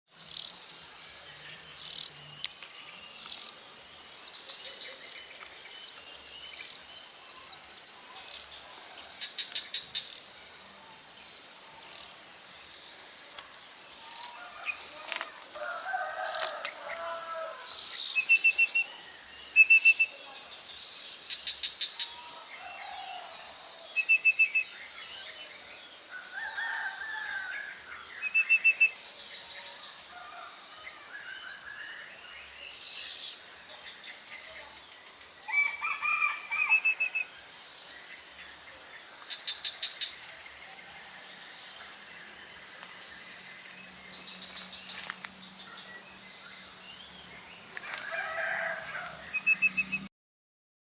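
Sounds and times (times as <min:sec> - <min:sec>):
birds chirping: 0:00.1 - 0:50.1.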